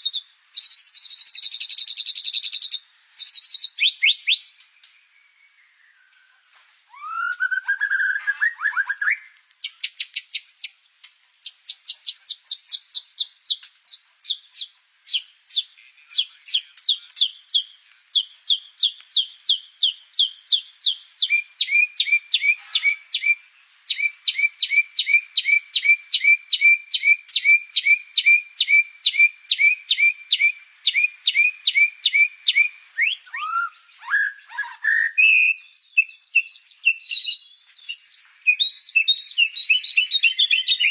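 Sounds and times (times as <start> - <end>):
songbird whistling notes: 0.0 - 10.8, 11.4 - 40.9.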